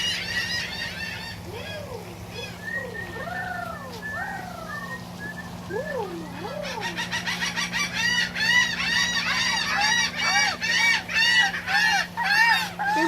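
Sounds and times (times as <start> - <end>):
laughing gulls cackling: 0.0 - 13.0.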